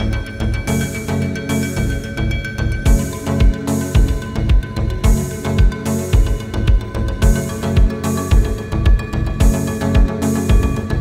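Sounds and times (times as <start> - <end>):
background music with deep drum: 0.0 - 11.0.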